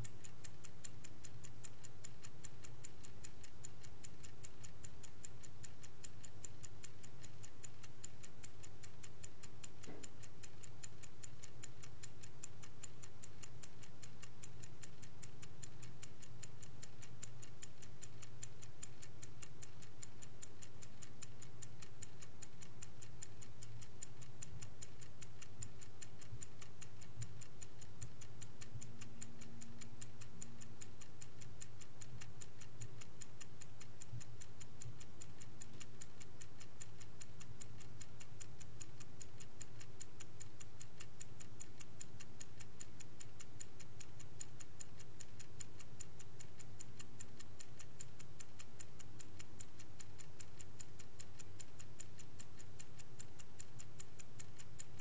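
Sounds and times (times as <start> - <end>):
clock ticking: 0.0 - 55.0
faint low hum: 0.0 - 55.0.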